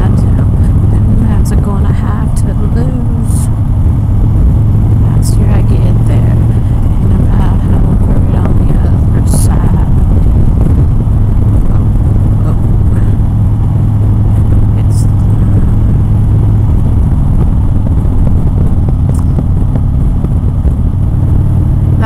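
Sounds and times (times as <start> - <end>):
motorcycle engine drone: 0.0 - 22.0
wind noise: 0.0 - 22.0.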